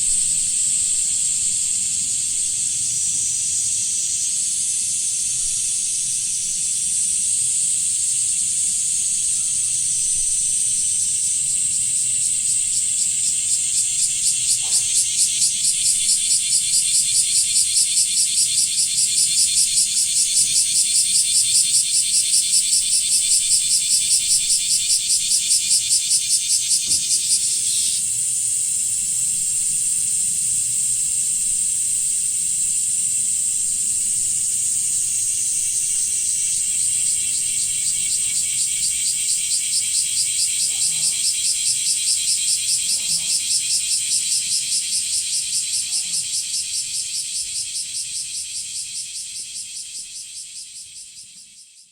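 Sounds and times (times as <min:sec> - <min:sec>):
cicada chorus hissing: 0:00.0 - 0:51.9
pulsed cicada song: 0:00.0 - 0:51.9.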